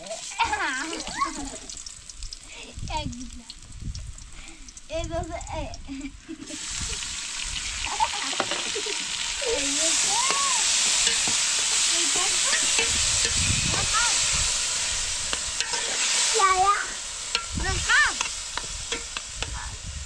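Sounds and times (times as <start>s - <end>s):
sizzling hiss: 0.0s - 20.0s.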